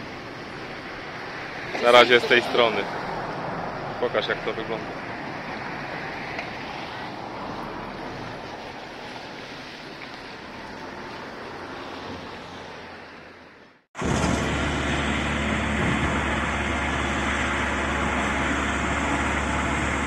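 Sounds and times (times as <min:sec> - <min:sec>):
faint outdoor noise: 0:00.0 - 0:20.0
low rumble of road traffic: 0:00.0 - 0:20.0.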